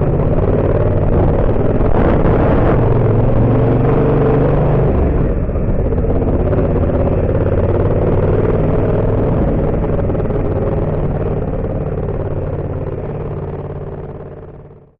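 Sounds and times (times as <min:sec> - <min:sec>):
motorcycle engine running: 0:00.0 - 0:14.9
rough engine clatter: 0:00.0 - 0:14.9.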